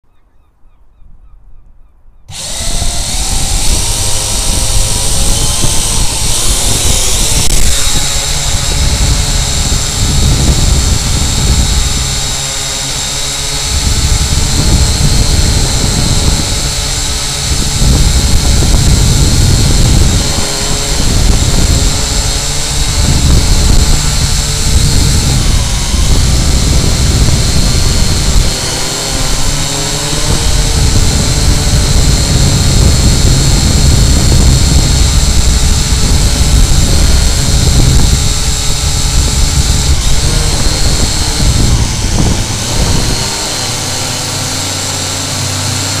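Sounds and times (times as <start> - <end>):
drone motors whining: 2.3 - 46.0
wind buffeting microphone: 2.3 - 46.0.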